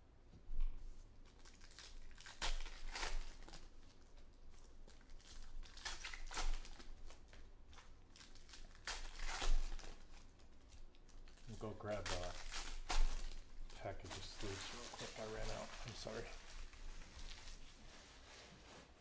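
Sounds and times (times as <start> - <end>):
plastic wrappers crinkling and tearing: 1.2 - 18.8.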